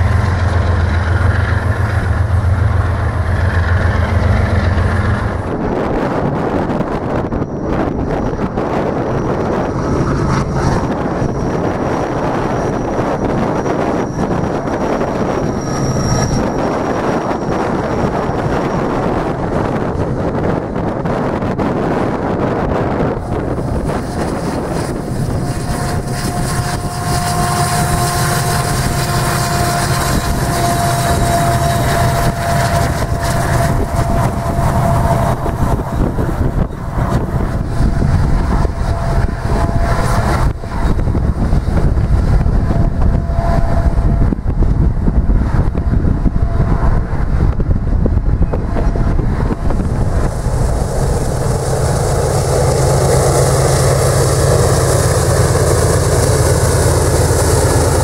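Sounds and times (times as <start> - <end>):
diesel locomotives: 0.0 - 58.0
freight train rumbling by: 0.0 - 58.0
steady whine: 0.0 - 58.0.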